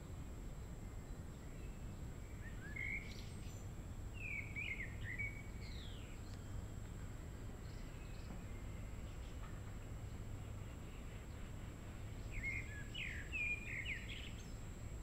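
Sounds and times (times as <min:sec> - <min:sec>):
low background rumble: 0:00.0 - 0:15.0
songbirds singing: 0:00.0 - 0:15.0.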